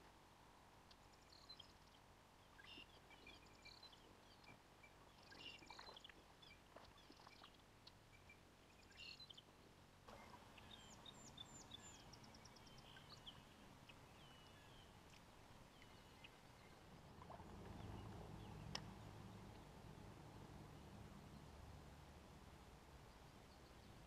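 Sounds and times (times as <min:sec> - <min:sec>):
low steady rumble: 0:00.0 - 0:24.0
faint birdsong: 0:00.3 - 0:24.0.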